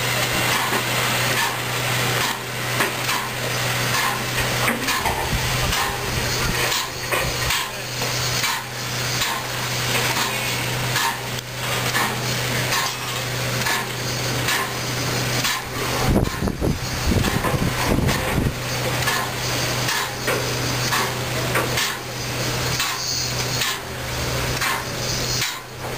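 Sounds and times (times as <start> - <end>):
steam locomotive hissing: 0.0 - 25.9.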